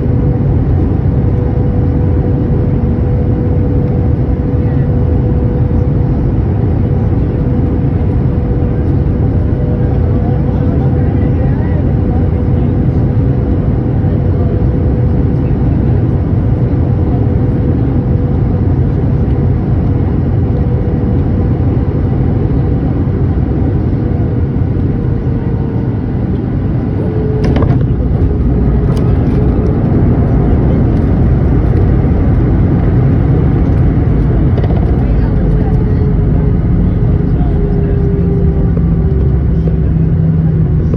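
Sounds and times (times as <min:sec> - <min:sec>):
airliner cabin rumble: 0:00.0 - 0:40.9
faint jet engine whine: 0:00.0 - 0:40.9.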